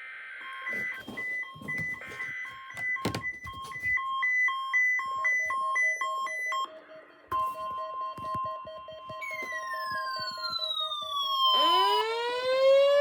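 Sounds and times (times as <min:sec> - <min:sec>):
steady warning alarm tone: 0:00.2 - 0:13.0.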